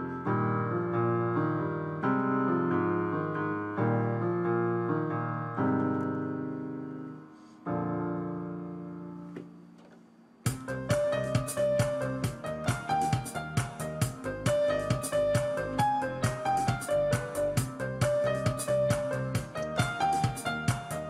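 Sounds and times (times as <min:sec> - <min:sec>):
slow piano chords: 0:00.0 - 0:09.8, 0:10.5 - 0:21.0.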